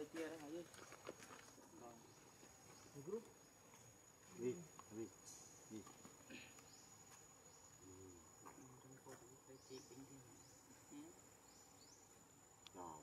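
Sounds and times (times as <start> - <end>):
insect high-pitched whine: 0.0 - 13.0.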